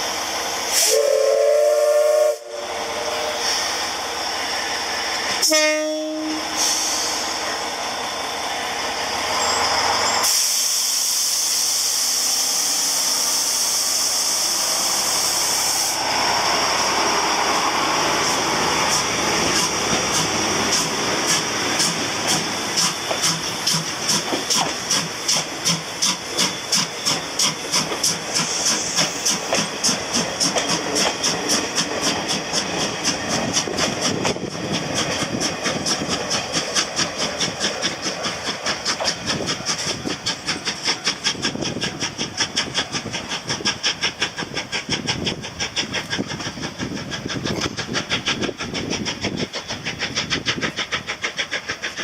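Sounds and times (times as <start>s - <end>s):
steam hissing: 0.0s - 52.0s
steam locomotive exhaust chuffing: 0.0s - 52.0s.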